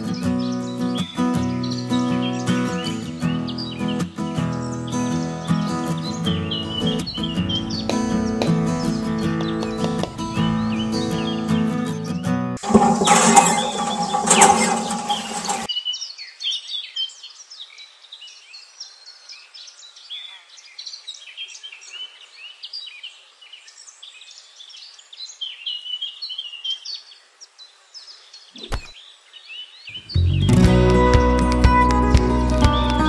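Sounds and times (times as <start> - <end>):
small birds chirping: 0.0 - 12.2, 13.3 - 30.6.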